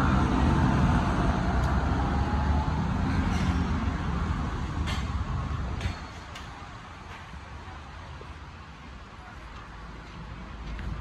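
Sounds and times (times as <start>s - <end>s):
vehicles passing on wet street: 0.0s - 11.0s.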